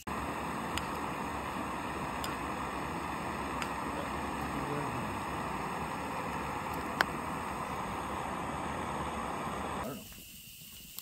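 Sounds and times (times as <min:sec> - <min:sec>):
stove burner hissing: 0:00.0 - 0:11.0.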